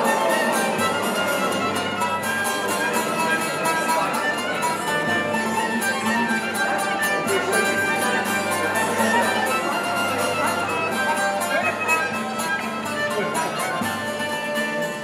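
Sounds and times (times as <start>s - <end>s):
violin and strings music: 0.0s - 15.0s.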